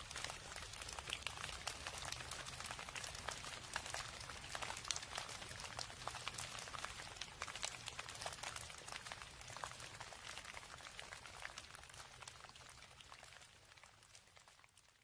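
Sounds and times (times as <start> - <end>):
rain drops ticking: 0.0 - 15.0.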